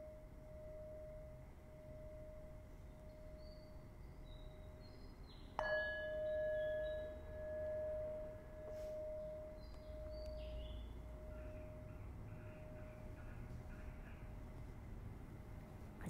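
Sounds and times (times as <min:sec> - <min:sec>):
meditation bell ringing: 0:00.0 - 0:14.4.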